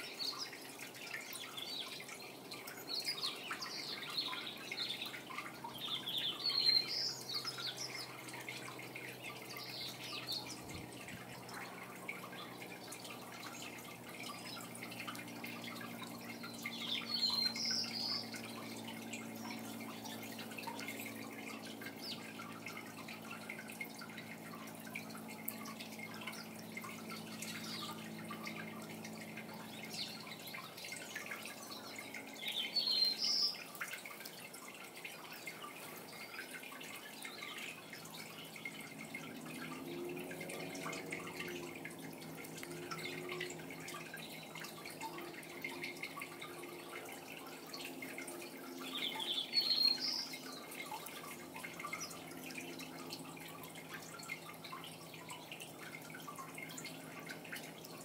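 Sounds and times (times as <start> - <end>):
faint drip-like ticks: 0.0 - 58.0.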